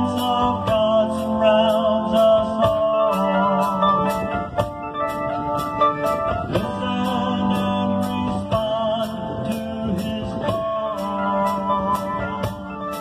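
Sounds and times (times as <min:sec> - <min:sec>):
keyboard chords: 0:00.0 - 0:13.0
live rock band: 0:00.0 - 0:13.0.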